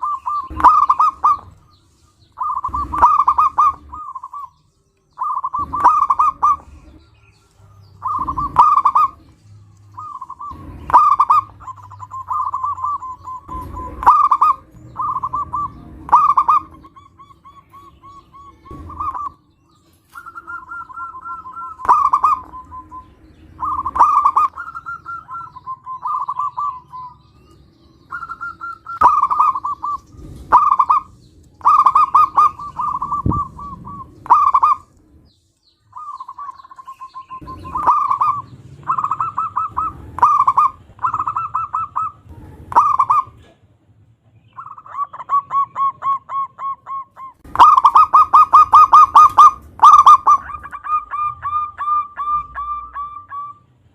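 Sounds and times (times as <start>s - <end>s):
dove cooing: 0.0s - 35.0s, 35.9s - 43.6s, 44.5s - 53.7s.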